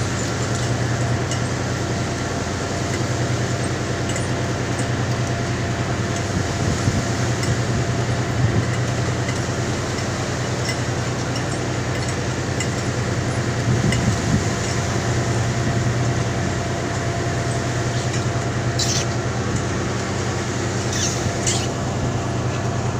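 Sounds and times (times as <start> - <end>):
machinery droning: 0.0 - 22.9.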